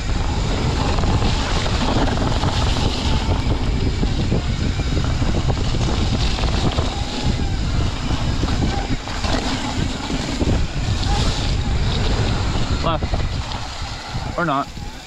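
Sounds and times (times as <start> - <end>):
bike tyres rumbling and rattling: 0.0 - 15.0
wind rushing over microphone: 0.0 - 15.0.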